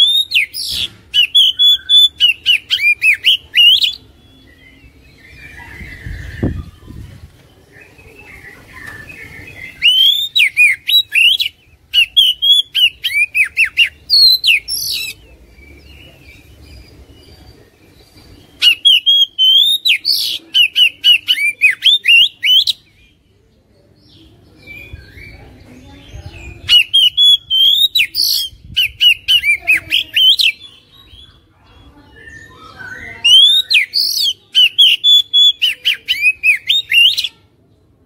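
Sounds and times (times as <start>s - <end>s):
magpie-robin singing: 0.0s - 38.0s.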